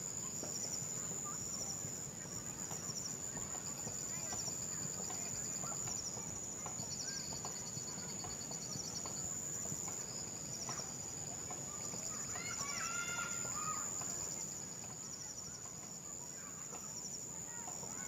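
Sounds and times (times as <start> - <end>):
pulsed insect trills: 0.0 - 18.0.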